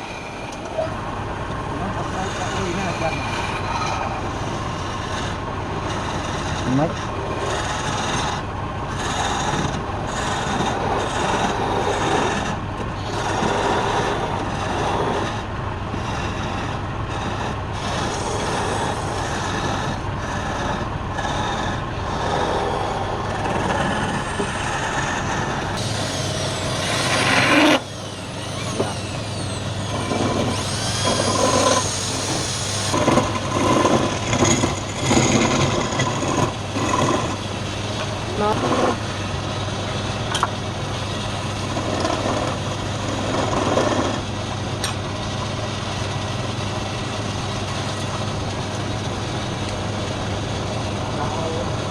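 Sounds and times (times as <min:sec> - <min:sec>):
tool rasping against spinning wood: 0:00.0 - 0:46.2
wood lathe humming: 0:00.0 - 0:51.9.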